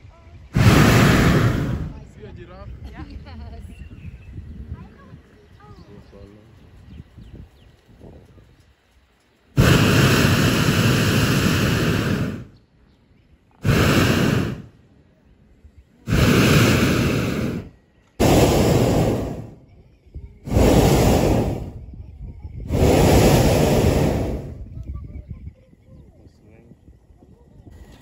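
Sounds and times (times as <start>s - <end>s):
propane burner blasts: 0.4s - 12.7s, 13.5s - 28.0s.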